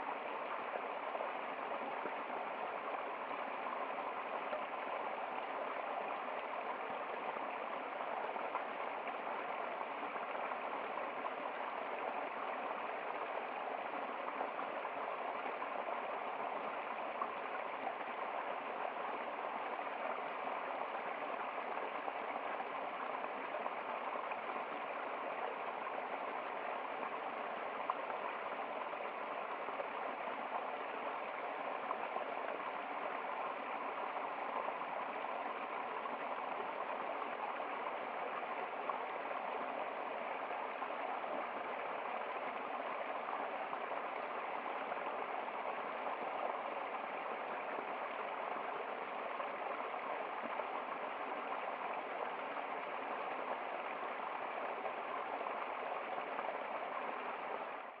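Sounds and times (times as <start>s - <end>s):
waterfall splashing over rocks: 0.0s - 58.0s.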